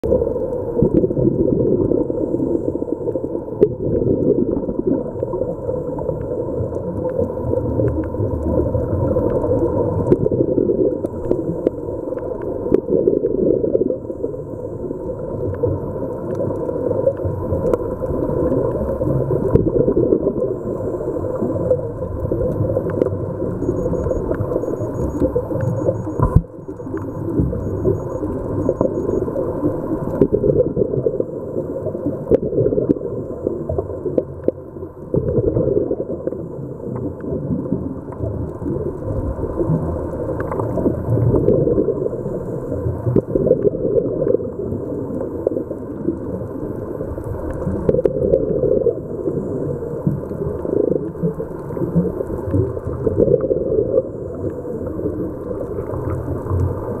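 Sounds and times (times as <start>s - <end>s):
underwater bubbling: 0.0s - 57.0s.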